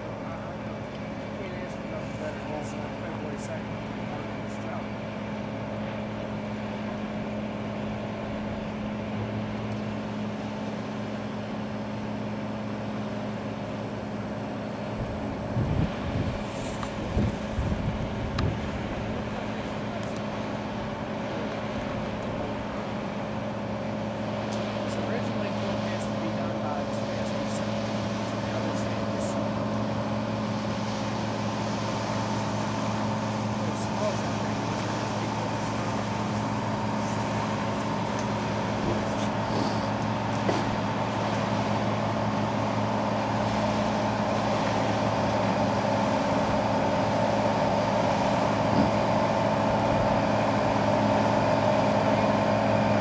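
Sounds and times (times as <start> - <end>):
boat diesel engine humming: 0.0 - 53.0.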